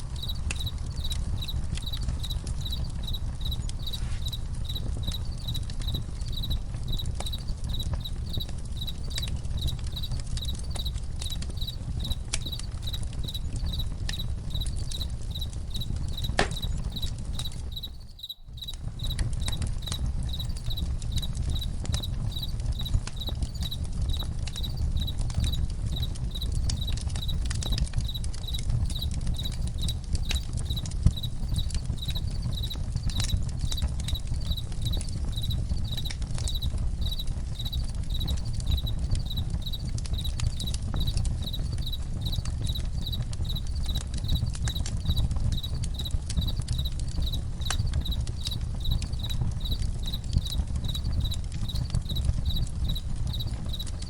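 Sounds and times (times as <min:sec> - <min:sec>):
campfire crackling: 0:00.0 - 0:54.0
crickets chirping: 0:00.0 - 0:54.0.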